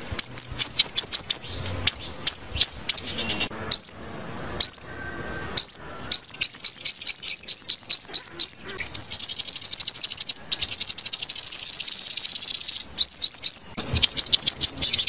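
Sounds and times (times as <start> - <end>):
bird high upsweeping chirps: 0.0 - 15.0.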